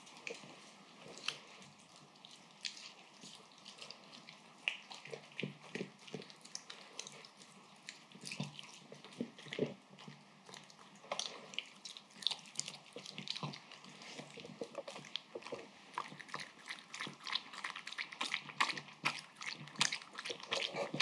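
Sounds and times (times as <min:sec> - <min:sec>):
dog chewing and licking: 0:00.0 - 0:21.0.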